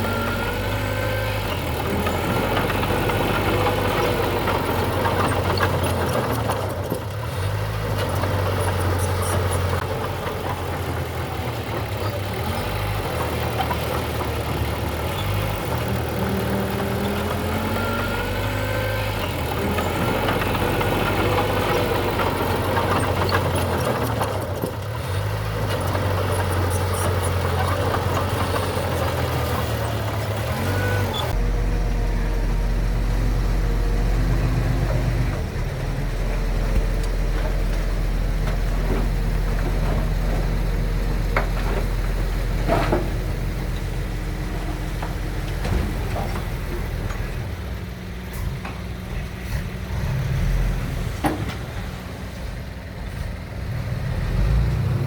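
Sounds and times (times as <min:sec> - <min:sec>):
diesel machinery engine: 0:00.0 - 0:55.0.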